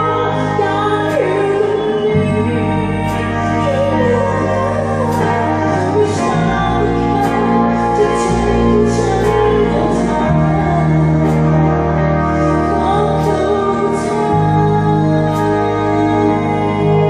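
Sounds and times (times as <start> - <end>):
bass line: 0.0 - 17.0
sustained organ chords: 0.0 - 17.0.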